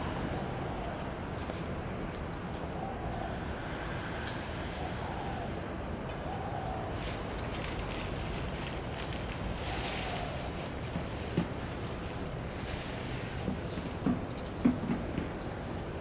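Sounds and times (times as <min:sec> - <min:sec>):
outdoor city noise: 0:00.0 - 0:16.0.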